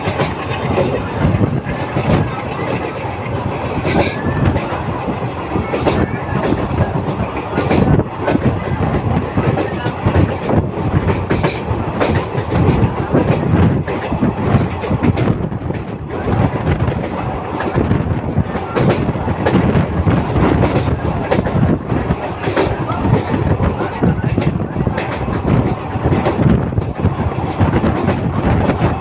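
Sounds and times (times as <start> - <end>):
train coaches rumbling: 0.0 - 29.0
wheels clattering on rails: 0.0 - 29.0.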